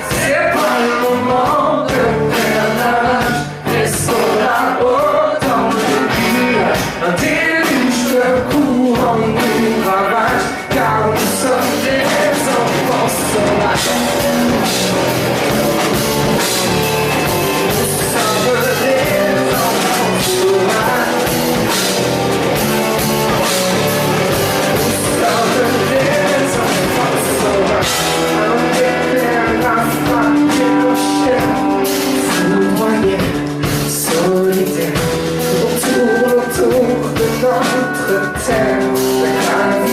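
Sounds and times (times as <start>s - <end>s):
drums: 0.0s - 39.9s
electric guitar: 0.0s - 39.9s
man singing: 0.0s - 39.9s.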